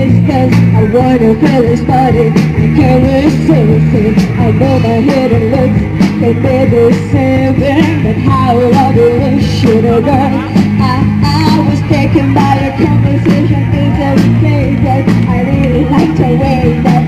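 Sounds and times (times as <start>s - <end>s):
rock-pop band playing: 0.0s - 17.0s.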